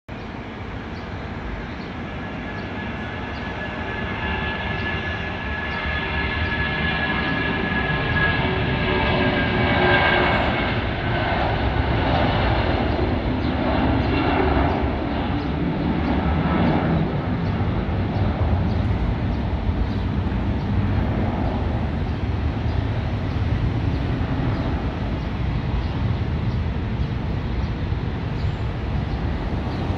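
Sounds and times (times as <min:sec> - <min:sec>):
jet engine roar: 0:00.2 - 0:29.9.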